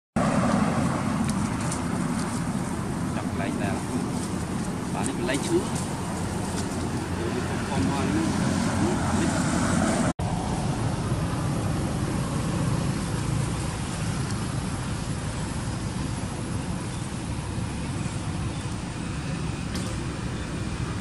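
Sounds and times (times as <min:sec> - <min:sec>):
outdoor background rumble: 0:00.2 - 0:21.0.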